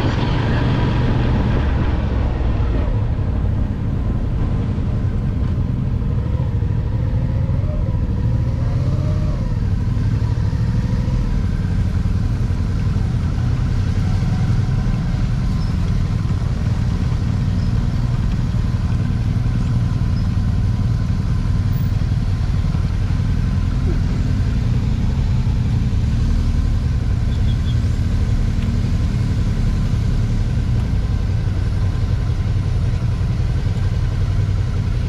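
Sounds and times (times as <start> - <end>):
motorcycle engine rumble: 0.0 - 35.0.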